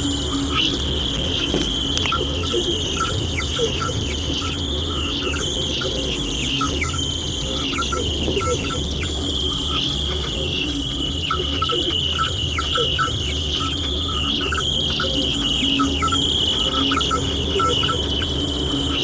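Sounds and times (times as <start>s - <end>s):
low hum: 0.0s - 19.0s
steady high radio tone: 0.0s - 19.0s
chirping blips and squeaks: 0.3s - 19.0s.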